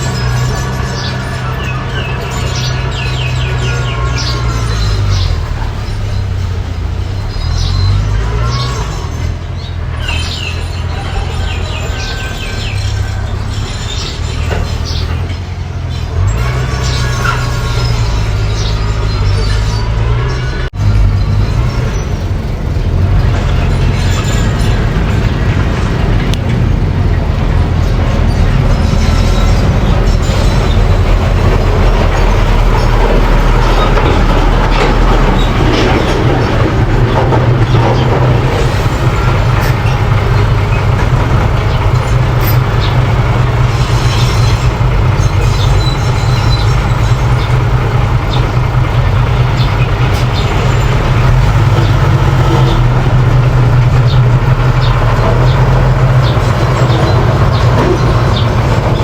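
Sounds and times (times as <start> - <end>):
bulldozer engine running: 0.0 - 59.0
machine clanking: 0.0 - 59.0.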